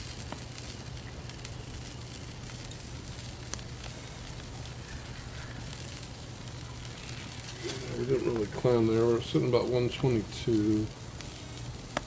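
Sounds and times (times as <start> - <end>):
low steady hum: 0.0 - 12.0
wood fire hissing and crackling: 0.0 - 12.0.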